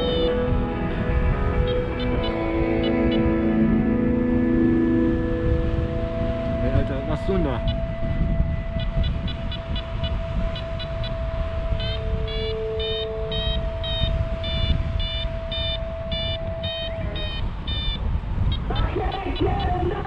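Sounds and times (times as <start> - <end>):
variometer beeping: 0.0 - 19.9
steady humming tone: 0.0 - 20.0
wind on microphone: 0.0 - 20.0.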